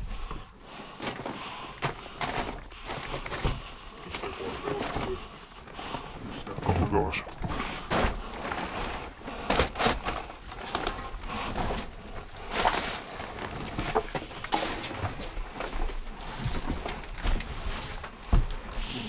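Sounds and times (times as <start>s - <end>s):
footsteps on debris and wood: 0.0s - 19.0s.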